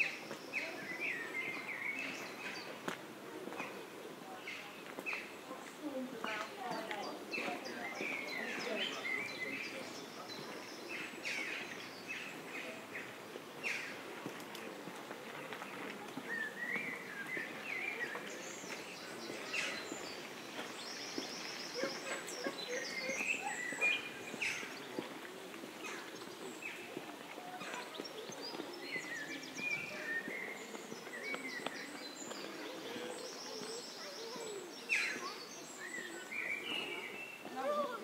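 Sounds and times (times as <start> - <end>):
outdoor background noise: 0.0 - 38.0
songbirds chirping and trilling: 0.0 - 38.0.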